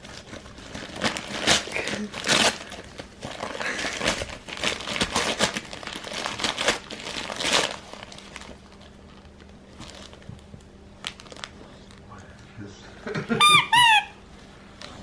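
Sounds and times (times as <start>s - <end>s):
wrapping paper and plastic ripping: 0.0s - 12.0s.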